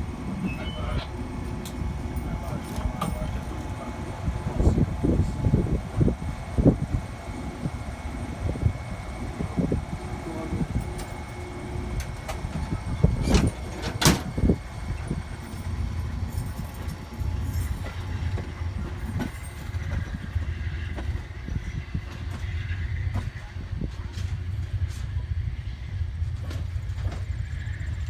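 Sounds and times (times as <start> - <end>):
passenger train rumbling: 0.0 - 28.0.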